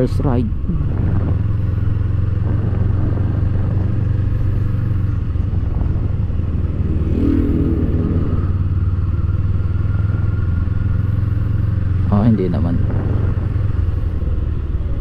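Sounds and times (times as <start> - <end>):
motorcycle engine idling: 0.2 - 15.0.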